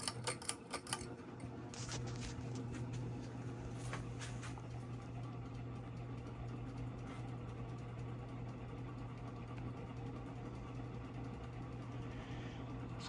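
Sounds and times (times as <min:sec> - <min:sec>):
ceiling fan motor hum: 0:00.0 - 0:13.0
fan bearing noise: 0:00.0 - 0:13.0.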